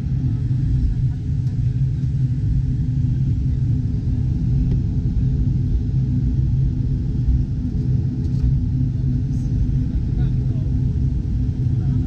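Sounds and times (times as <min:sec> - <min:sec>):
airliner engines rumbling in cabin: 0:00.0 - 0:12.0
constant low hum: 0:00.0 - 0:12.0.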